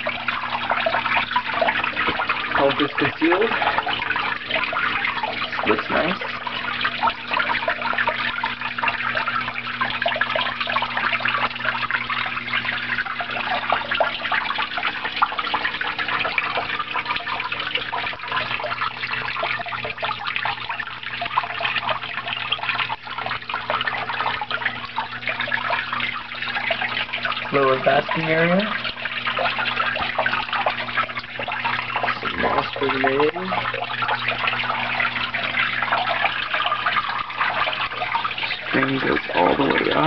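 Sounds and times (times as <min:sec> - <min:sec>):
water splashing and trickling: 0:00.0 - 0:40.0.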